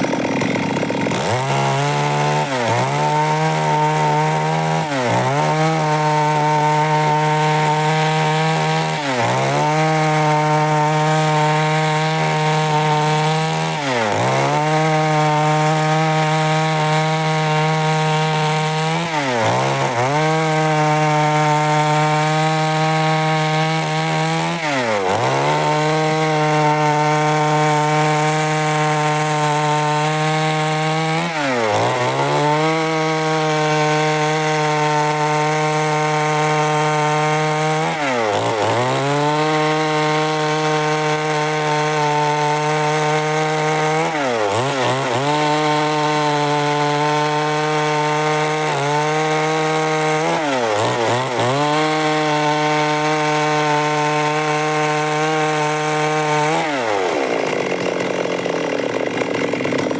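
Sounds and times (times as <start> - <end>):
chainsaw sawing wood: 0.0 - 59.9.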